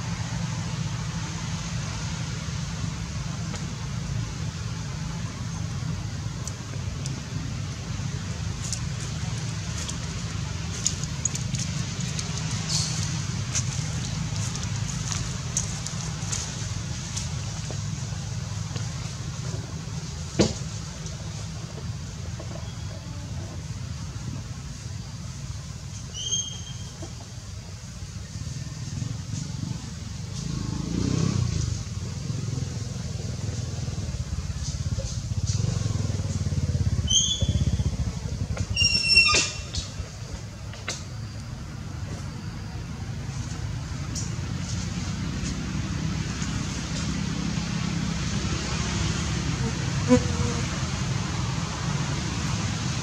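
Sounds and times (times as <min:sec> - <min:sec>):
engine pulsing rumble: 0:00.0 - 0:26.1, 0:26.8 - 0:53.0.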